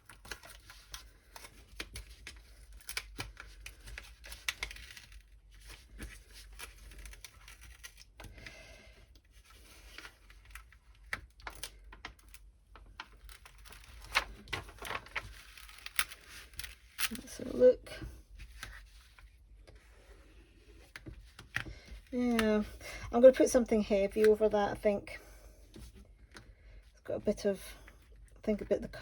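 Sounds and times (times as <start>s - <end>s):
plastic sheet crinkling and rustling: 0.0s - 8.4s, 9.1s - 25.1s.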